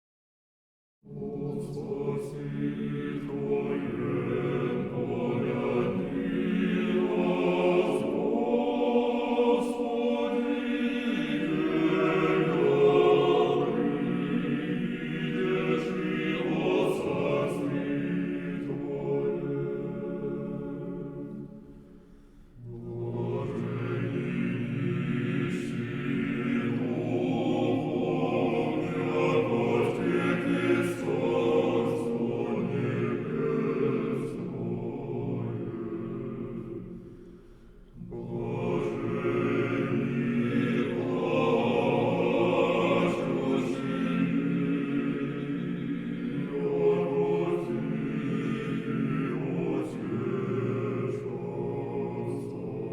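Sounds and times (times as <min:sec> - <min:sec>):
choir singing slow chant: 0:01.0 - 0:52.9.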